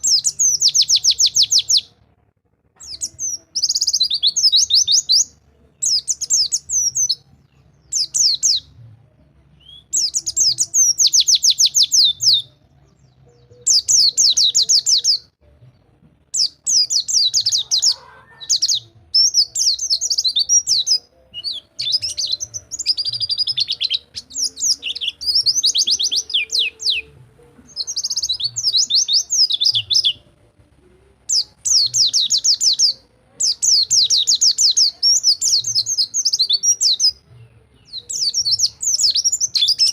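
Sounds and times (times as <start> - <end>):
bird singing rapid high chirps: 0.0 - 1.9, 2.8 - 8.8, 9.6 - 15.3, 16.3 - 30.4, 31.2 - 39.9.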